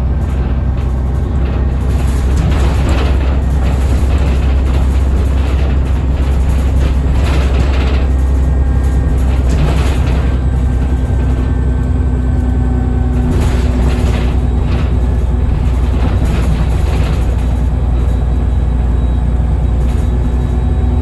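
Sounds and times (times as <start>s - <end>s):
diesel bus engine rumbling: 0.0s - 21.0s.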